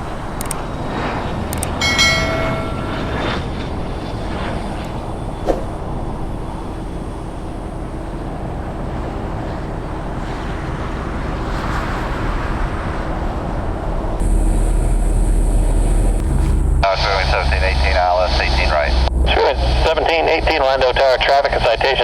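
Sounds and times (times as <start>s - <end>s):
vehicle noise with low hum: 0.0s - 22.0s.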